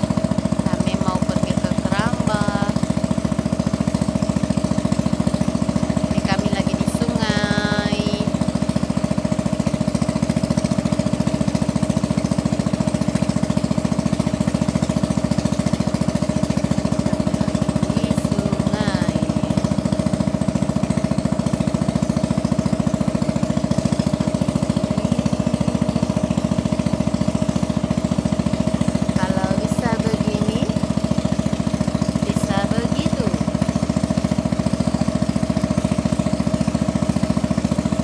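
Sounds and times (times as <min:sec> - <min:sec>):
boat engine chugging: 0:00.0 - 0:38.0.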